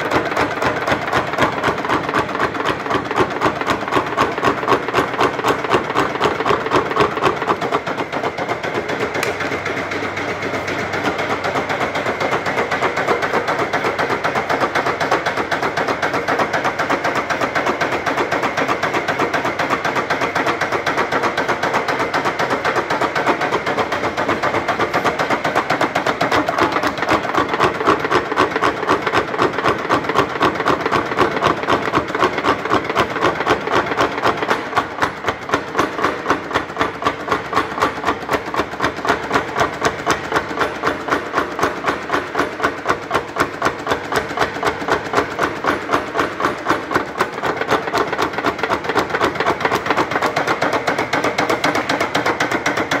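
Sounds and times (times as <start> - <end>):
motor and drive running: 0.0 - 53.0
power hammer striking: 0.0 - 53.0.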